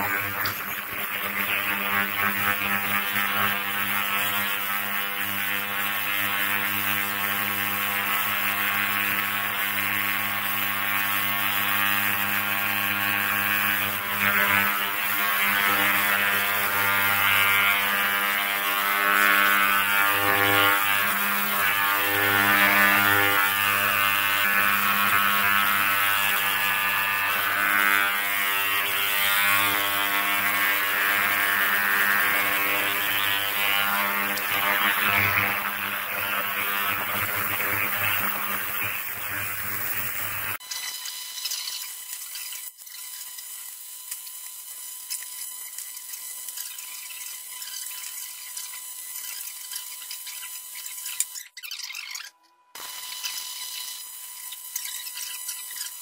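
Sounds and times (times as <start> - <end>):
ultrasonic cleaner buzzing and hissing: 0.0 - 51.4, 52.8 - 56.0.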